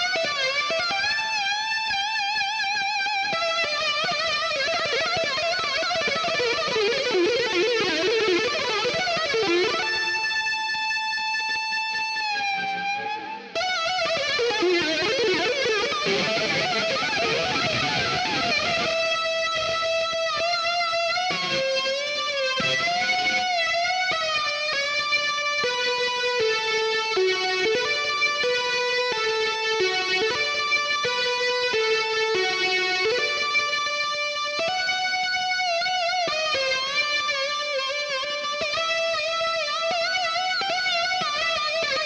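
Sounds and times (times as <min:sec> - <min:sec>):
distorted electric guitar notes: 0:00.0 - 0:42.0.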